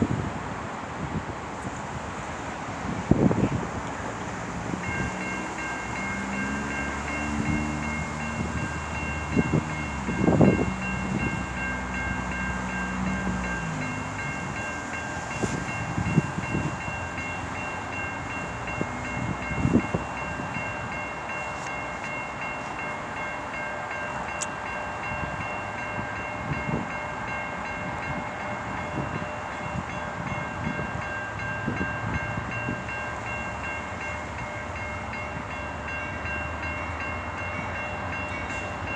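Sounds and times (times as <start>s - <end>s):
locomotive engine drone: 0.0s - 38.9s
railcars rolling with wheel knocks: 0.0s - 38.9s.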